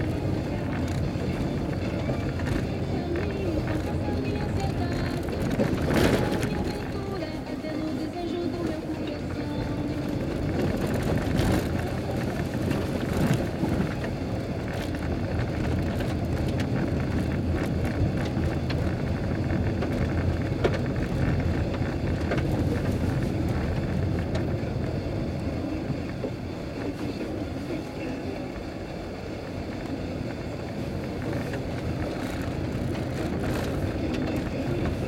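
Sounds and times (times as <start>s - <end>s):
rumble of tyres and engine: 0.0s - 35.0s.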